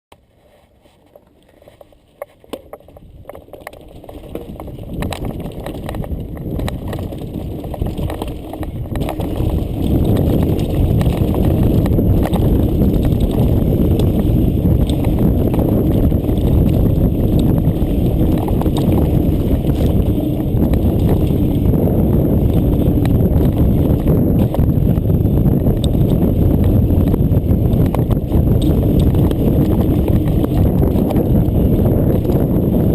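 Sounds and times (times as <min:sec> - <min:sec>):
mountain bike rattling over stones: 0:00.6 - 0:32.9.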